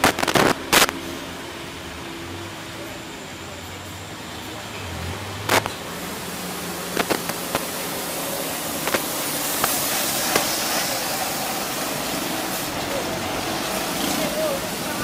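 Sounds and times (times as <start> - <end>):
vehicles driving past: 0.0 - 15.0.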